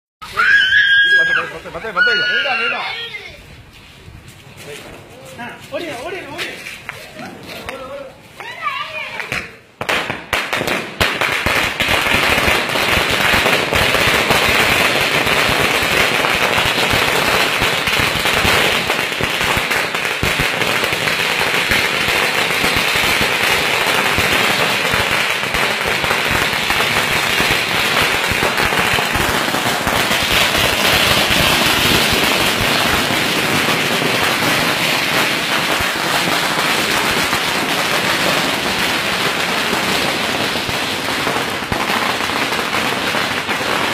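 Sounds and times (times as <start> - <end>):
firecrackers crackling: 0.2 - 43.9.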